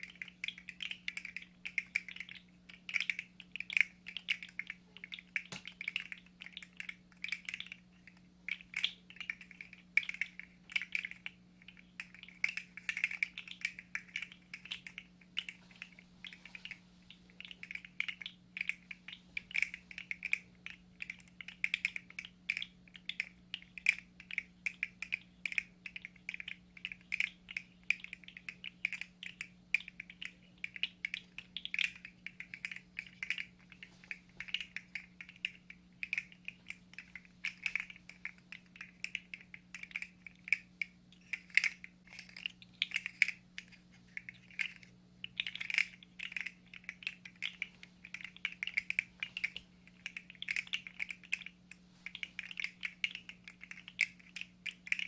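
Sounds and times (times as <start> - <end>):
small plastic clicks and clatter: 0.0 - 16.8, 17.4 - 55.0
faint low hum: 0.0 - 55.0.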